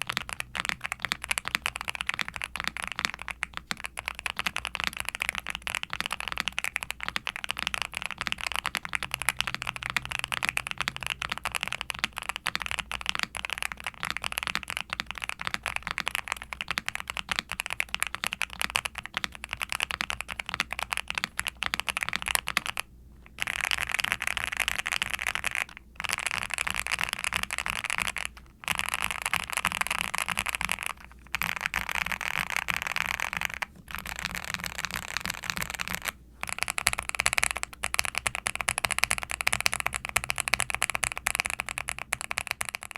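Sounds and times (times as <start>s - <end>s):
mechanical keyboard typing: 0.0s - 42.9s.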